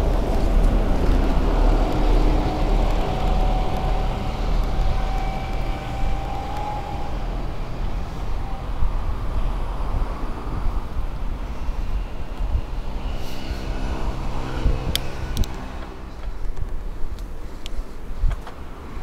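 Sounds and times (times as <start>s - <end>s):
bicycle tyres on pavement: 0.0s - 19.0s
road traffic passing: 0.0s - 19.0s
wind rumbling on microphone: 0.0s - 19.0s.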